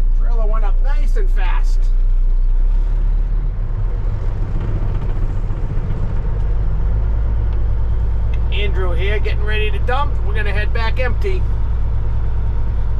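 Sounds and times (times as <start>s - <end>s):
diesel truck engine rumbling: 0.0s - 12.9s.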